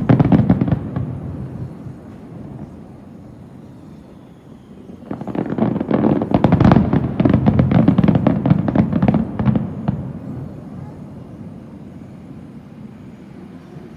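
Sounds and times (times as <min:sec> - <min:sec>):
fireworks bangs and crackles: 0:00.0 - 0:13.9.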